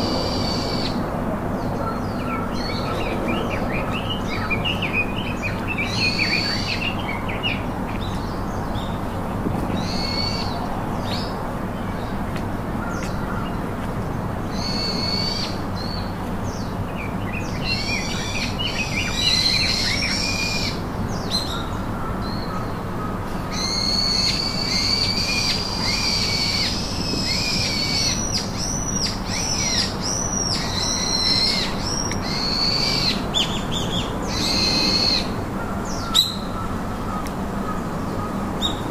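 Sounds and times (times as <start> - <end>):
birds chirping and whistling: 1.6 - 9.1, 9.7 - 11.3, 14.5 - 22.8, 23.5 - 38.9.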